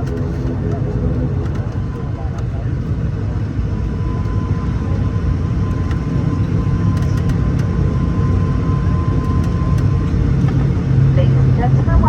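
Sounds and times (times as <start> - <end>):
turboprop engine drone: 0.0 - 12.0.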